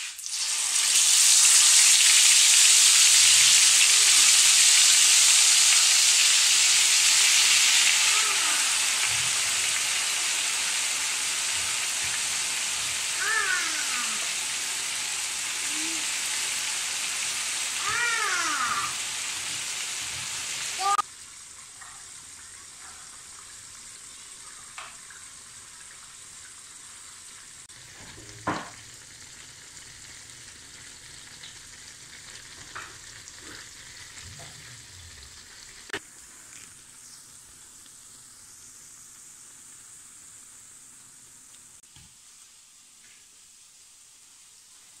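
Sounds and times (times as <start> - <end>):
food deep-frying in oil: 0.0 - 45.0.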